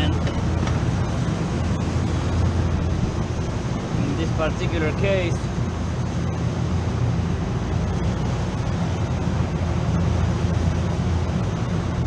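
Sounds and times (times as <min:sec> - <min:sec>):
even rushing noise: 0:00.0 - 0:12.0
refrigeration machinery humming: 0:00.0 - 0:12.0.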